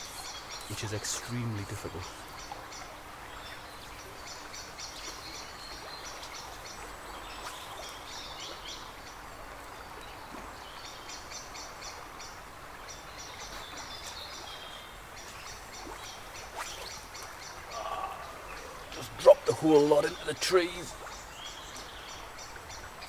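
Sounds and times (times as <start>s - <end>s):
river water rushing: 0.0s - 23.0s
songbird singing: 0.0s - 23.0s.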